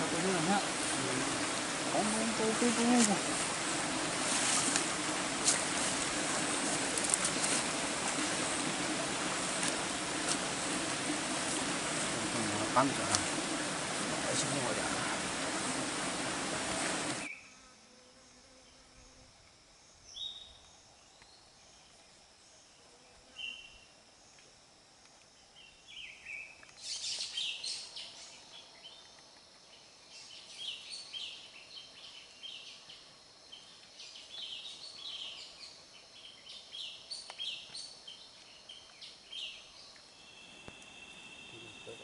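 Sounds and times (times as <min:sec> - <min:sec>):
faint high insect drone: 0:00.0 - 0:42.0.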